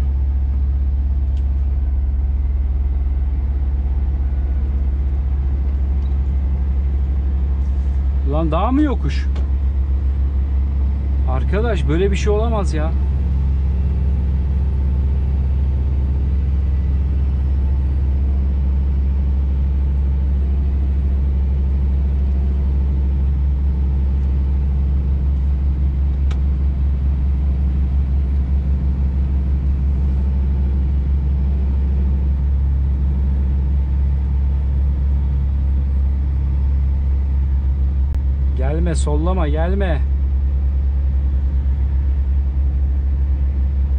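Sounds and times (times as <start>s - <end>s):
truck diesel engine drone: 0.0s - 43.9s.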